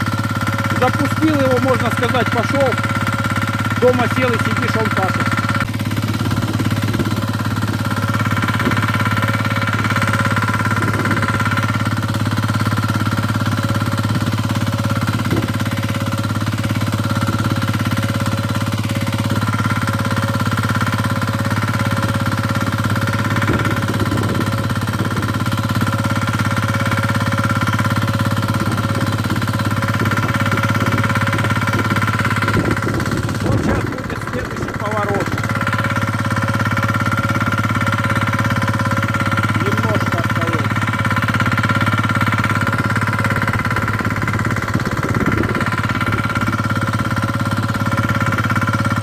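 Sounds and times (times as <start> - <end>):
diesel tractor engine running: 0.0 - 49.0.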